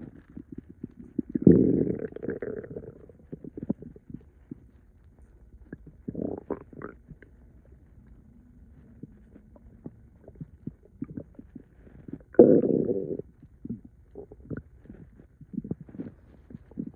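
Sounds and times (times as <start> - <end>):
stomach gurgling: 0.0 - 16.9.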